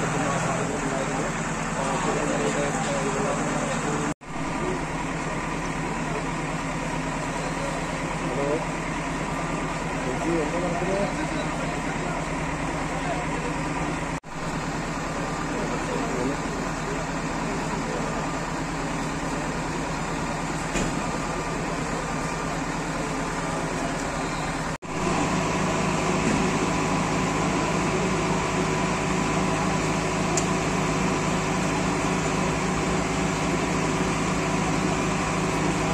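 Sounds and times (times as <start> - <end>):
machinery engine hum: 0.0 - 35.9.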